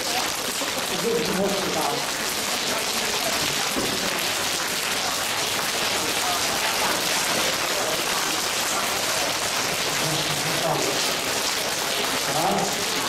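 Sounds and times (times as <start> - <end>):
crowd slapping hands and arms: 0.0 - 13.0.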